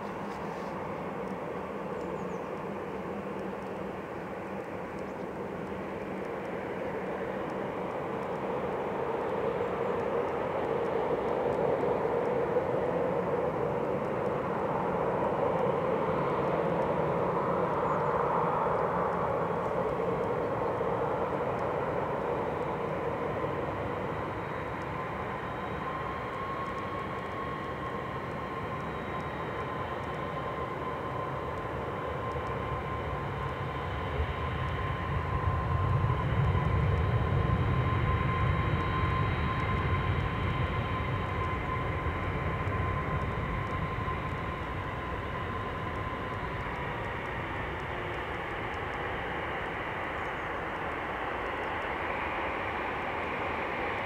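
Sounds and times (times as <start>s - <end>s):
distant jet rumble: 0.0s - 54.0s
high fan whine: 0.0s - 54.0s.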